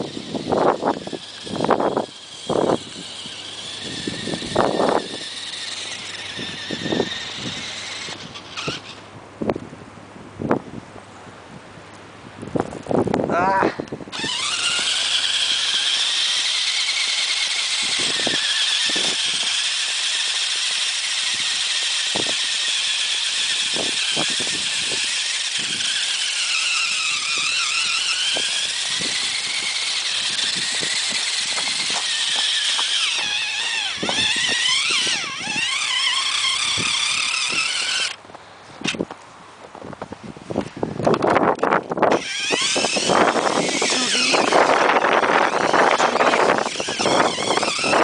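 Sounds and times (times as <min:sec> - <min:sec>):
atv engine whining: 0:00.0 - 0:10.0, 0:12.5 - 0:48.0.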